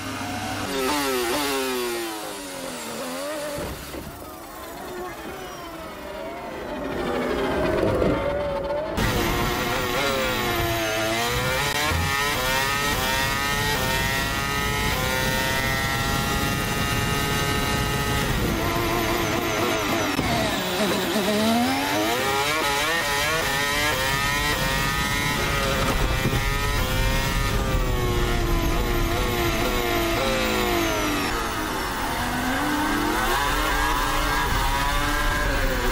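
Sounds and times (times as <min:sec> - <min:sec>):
racing car engine shifting gears: 0:00.0 - 0:35.9.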